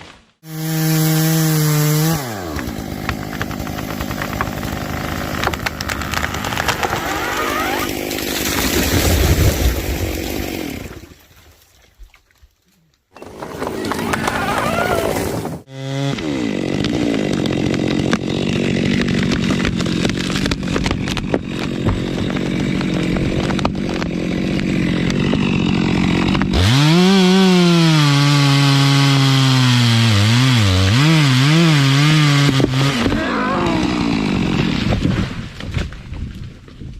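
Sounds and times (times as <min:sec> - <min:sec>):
chainsaw cutting wood: 0:00.0 - 0:11.2, 0:13.1 - 0:36.3
saw revving: 0:00.4 - 0:11.1, 0:13.2 - 0:35.3.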